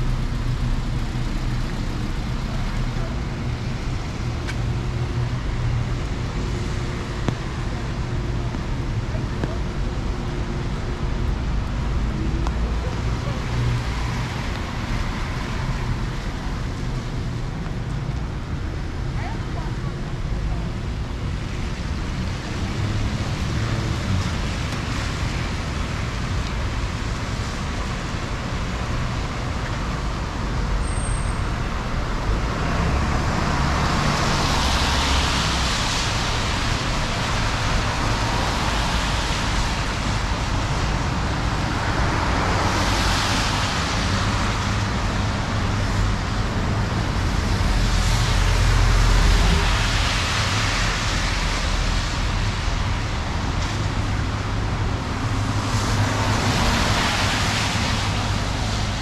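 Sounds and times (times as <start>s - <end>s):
low traffic rumble: 0.0s - 59.0s
tyres hissing on wet road: 0.0s - 59.0s.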